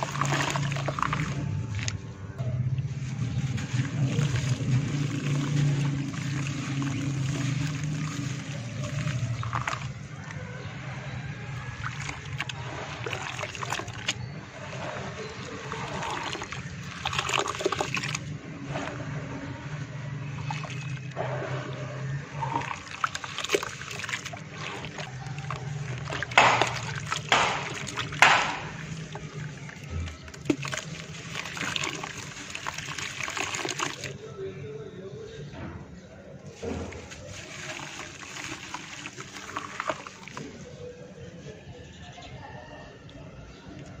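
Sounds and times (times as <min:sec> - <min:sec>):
wet mud squelching: 0:00.0 - 0:34.2, 0:36.5 - 0:41.5
water sloshing in a bucket: 0:00.0 - 0:34.4, 0:35.4 - 0:44.0.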